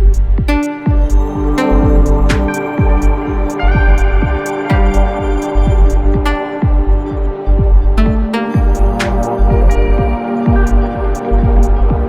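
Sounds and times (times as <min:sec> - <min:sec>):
deep kick drum: 0:00.0 - 0:12.0
light ticking cymbals: 0:00.0 - 0:12.0
held synth tones: 0:00.4 - 0:12.0.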